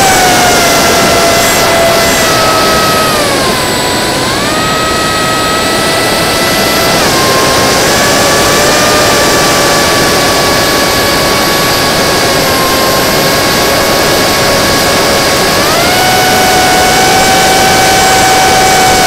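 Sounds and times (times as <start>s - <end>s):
electric motor and propeller whine: 0.0s - 19.0s
rushing wind noise: 0.0s - 19.0s.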